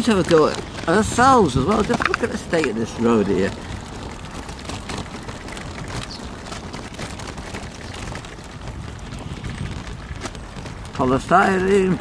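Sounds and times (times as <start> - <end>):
small rattles: 0.0 - 12.0
tyres rolling over rough road: 0.0 - 12.0
wind rumbling on microphone: 0.0 - 12.0.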